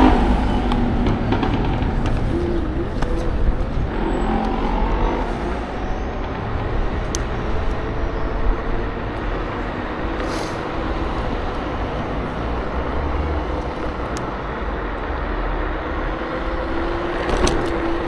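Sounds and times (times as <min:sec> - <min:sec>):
car engines: 0:00.0 - 0:18.0
road traffic rumble: 0:00.0 - 0:18.0
wind on microphone: 0:00.0 - 0:18.0.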